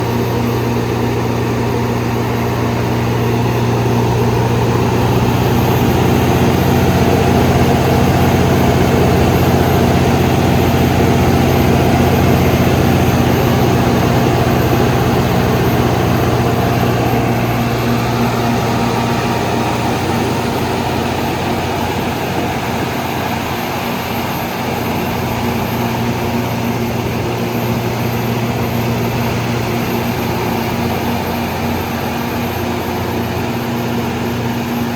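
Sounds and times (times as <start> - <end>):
diesel generator running: 0.0 - 34.9.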